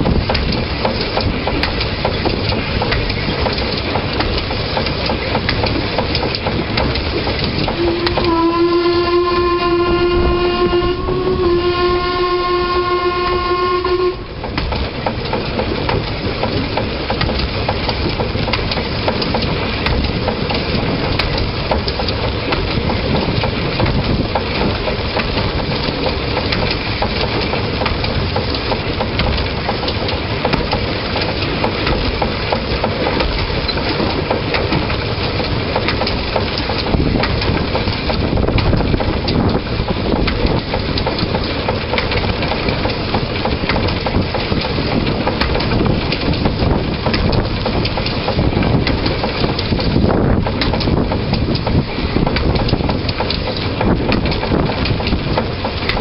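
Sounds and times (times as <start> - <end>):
train wheels rattling on rails: 0.0 - 56.0.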